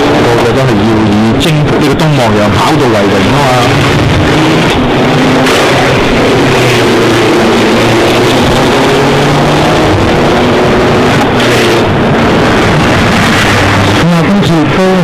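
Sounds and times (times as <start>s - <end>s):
racing car engines droning: 0.0s - 15.0s.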